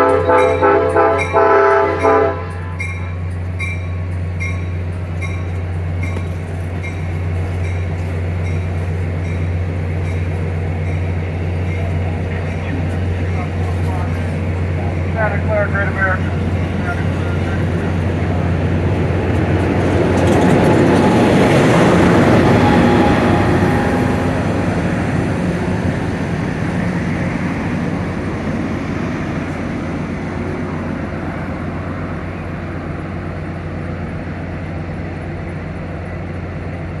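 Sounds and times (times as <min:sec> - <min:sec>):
diesel locomotive drone: 0:00.0 - 0:37.0
train wheels rumbling on rails: 0:00.0 - 0:37.0.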